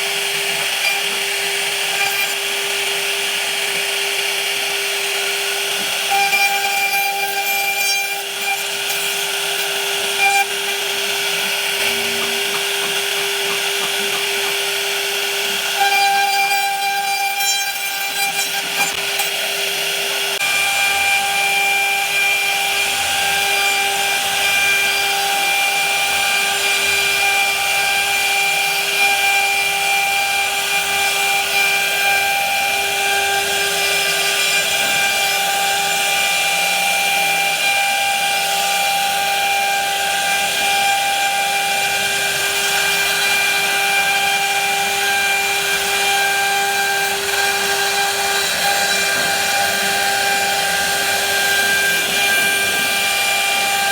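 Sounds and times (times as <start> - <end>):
power tool cutting wood: 0.0 - 53.9.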